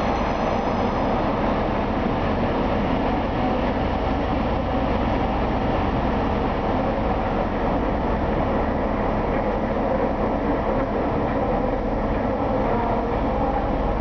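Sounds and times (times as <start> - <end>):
train running noise: 0.0 - 14.0.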